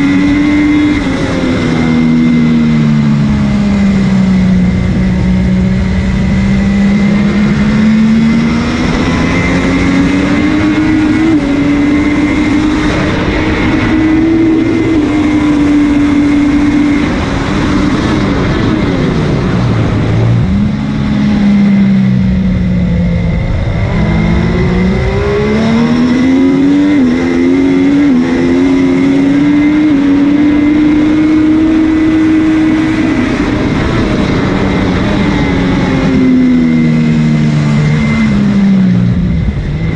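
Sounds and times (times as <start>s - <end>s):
motorcycle engine at racing revs: 0.0s - 39.9s
rushing wind: 0.0s - 39.9s.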